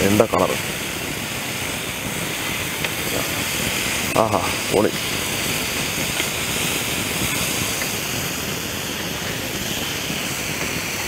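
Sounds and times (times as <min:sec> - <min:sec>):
chicken sizzling in a grill pan: 0:00.0 - 0:11.0.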